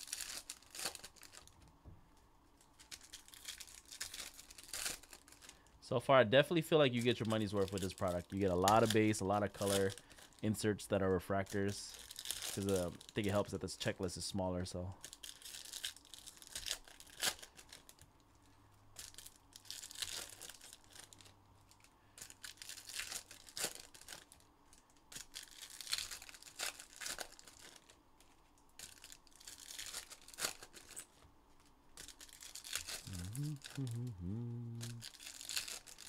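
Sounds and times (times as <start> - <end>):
wrappers tearing and crinkling: 0.0 - 1.6, 2.6 - 5.7, 6.9 - 14.4, 15.0 - 36.0.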